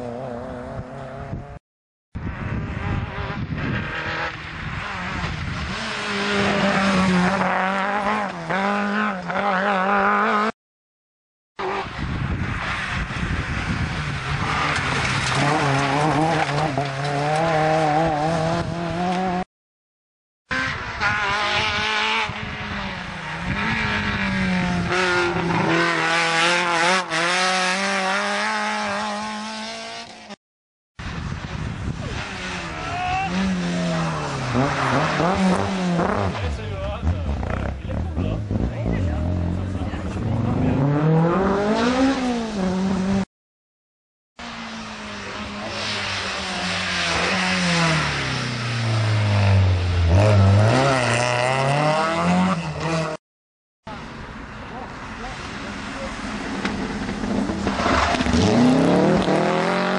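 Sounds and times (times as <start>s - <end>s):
rally car engines revving: 2.3s - 10.6s, 11.6s - 19.4s, 20.5s - 30.4s, 31.5s - 43.3s, 44.4s - 53.2s, 53.9s - 59.9s.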